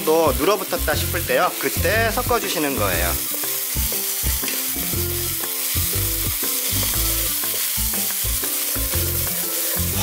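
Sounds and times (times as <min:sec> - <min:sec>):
fried rice sizzling in a pan: 0:00.0 - 0:10.0.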